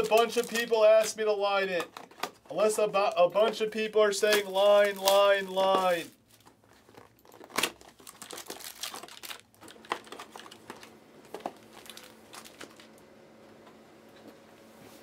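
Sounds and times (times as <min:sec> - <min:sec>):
packaging crinkling and rustling: 0:00.0 - 0:13.1.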